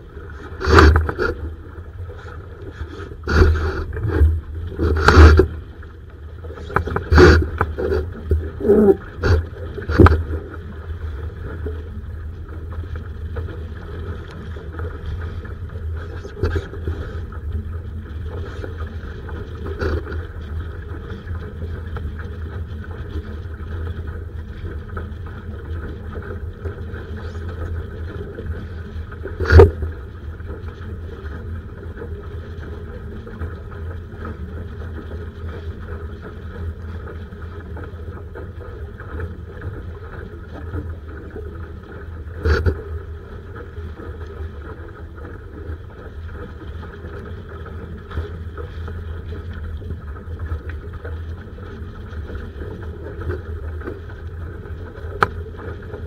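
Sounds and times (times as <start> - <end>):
wind and water rushing: 0.0 - 56.0.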